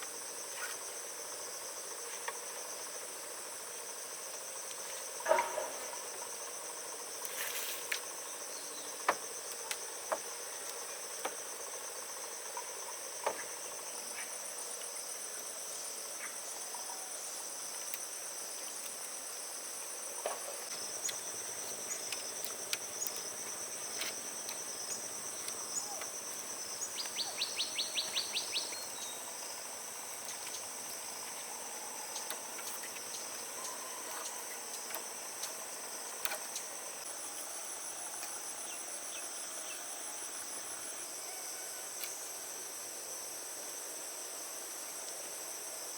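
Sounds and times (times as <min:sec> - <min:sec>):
crickets and insects chirring: 0:00.0 - 0:45.9.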